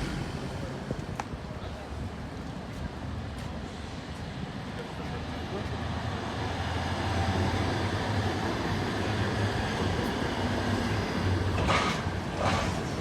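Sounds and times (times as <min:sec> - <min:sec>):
large vehicle engine rumble: 0:00.0 - 0:13.0.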